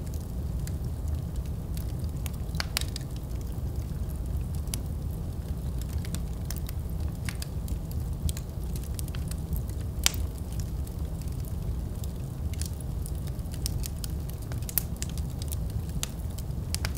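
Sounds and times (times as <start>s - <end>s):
fire crackling in a fireplace: 0.0s - 16.9s.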